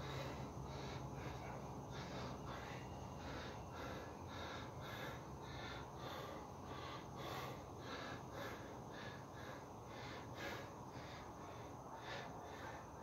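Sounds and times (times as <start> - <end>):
man breathing hard: 0.0 - 13.0.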